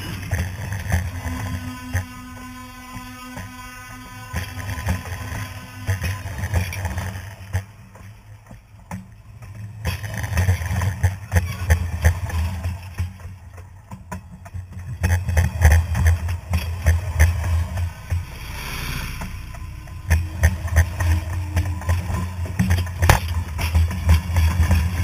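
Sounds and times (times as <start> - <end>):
railway wheels rumbling on rails: 2.8 - 25.0.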